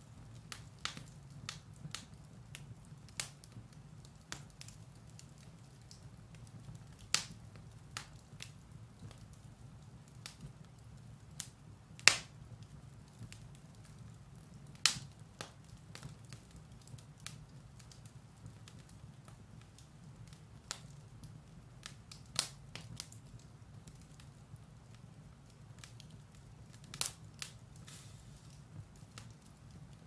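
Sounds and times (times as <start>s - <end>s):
firewood crackling: 0.0s - 30.0s
low fire rumble: 0.0s - 30.0s
sharp pops of burning wood: 0.4s - 9.3s, 11.4s - 24.3s, 25.0s - 30.0s.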